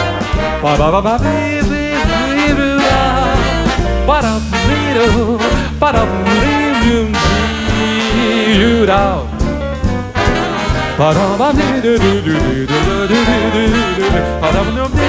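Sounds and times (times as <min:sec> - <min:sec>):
horn section melody: 0:00.0 - 0:15.0
swing jazz band playing: 0:00.0 - 0:15.0.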